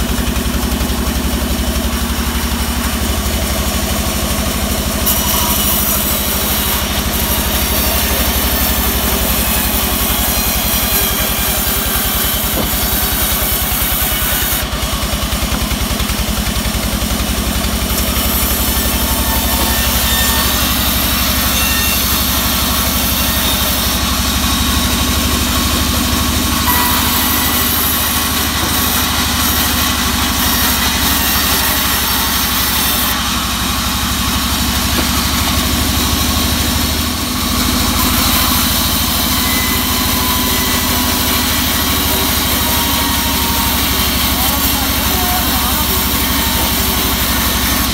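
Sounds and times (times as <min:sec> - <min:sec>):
band saw drive drone: 0:00.0 - 0:47.9
saw blade cutting wood: 0:00.0 - 0:47.9.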